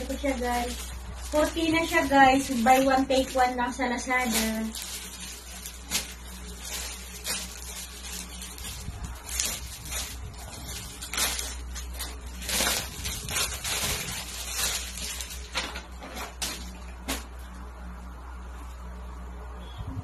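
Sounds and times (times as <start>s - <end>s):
plastic packaging crinkling: 0.0s - 17.6s
steady low hum: 0.0s - 20.0s.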